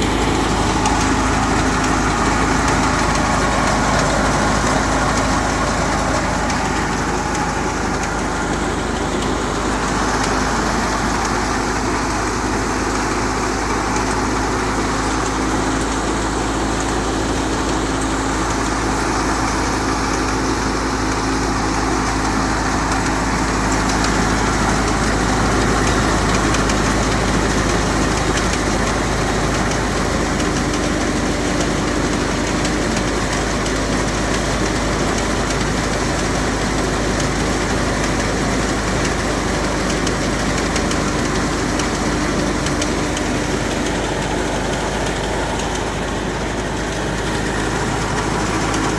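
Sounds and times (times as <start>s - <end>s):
thresher machinery drone: 0.0s - 48.9s
tractor diesel engine under load: 0.0s - 48.9s.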